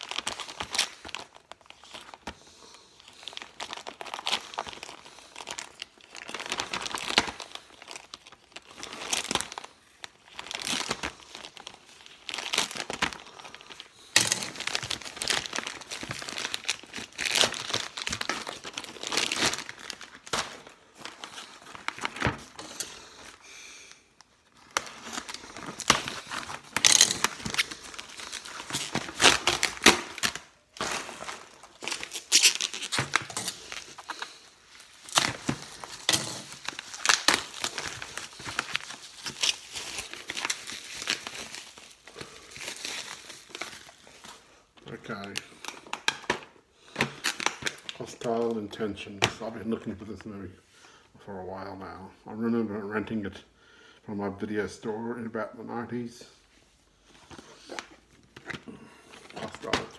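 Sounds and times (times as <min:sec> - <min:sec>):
plastic envelope tearing and crinkling: 0:00.0 - 0:23.4, 0:24.4 - 0:48.6, 0:57.2 - 0:59.9.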